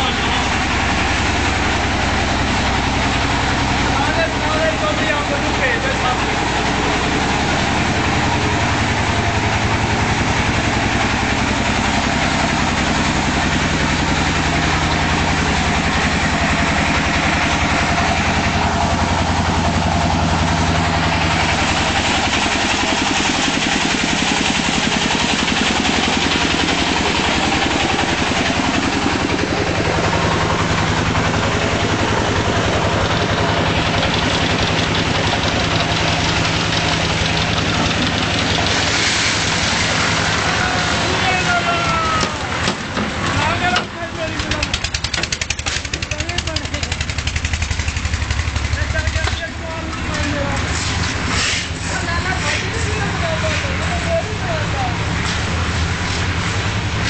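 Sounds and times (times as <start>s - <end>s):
concrete mixer engine chugging: 0.0s - 57.0s.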